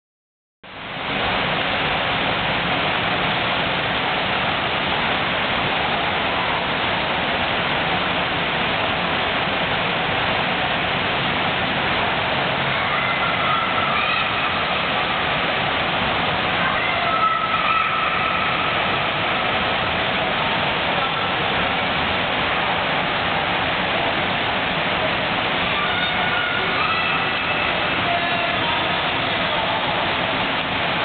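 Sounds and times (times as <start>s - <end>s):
water splashing from swimmers: 1.1s - 31.0s.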